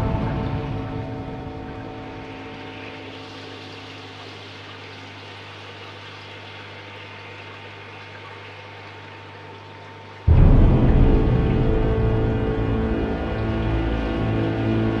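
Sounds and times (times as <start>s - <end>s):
water washing in fish tank: 0.0s - 15.0s.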